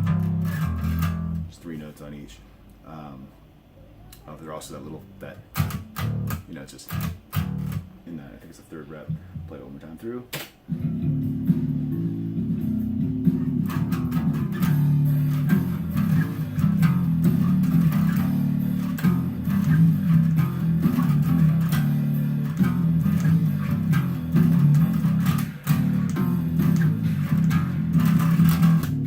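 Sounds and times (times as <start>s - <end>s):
electric bass guitar: 0.0s - 1.9s, 4.0s - 10.0s, 10.7s - 29.0s
recorded drums: 0.0s - 3.2s, 4.2s - 29.0s.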